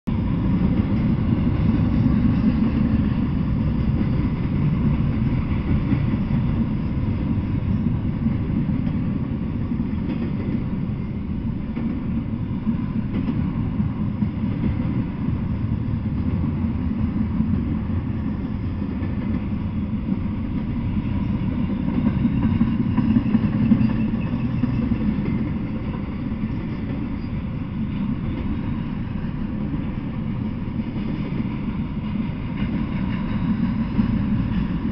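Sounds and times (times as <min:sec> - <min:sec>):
freight train rumbling past: 0:00.1 - 0:34.9.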